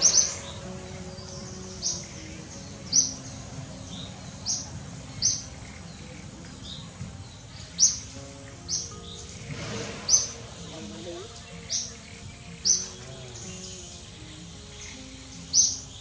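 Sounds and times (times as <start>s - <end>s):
bird chirping: 0.0s - 16.0s
low background noise: 0.0s - 16.0s.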